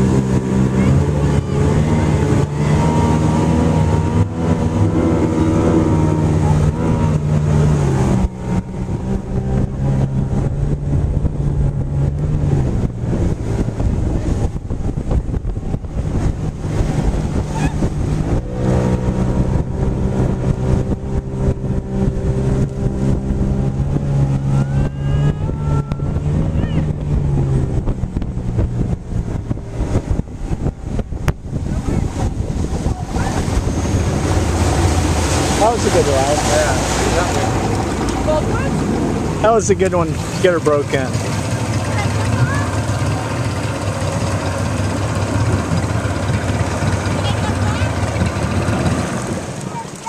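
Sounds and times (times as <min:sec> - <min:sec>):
rough rushing noise: 0:00.0 - 0:50.0
watercraft engine humming: 0:00.0 - 0:50.0.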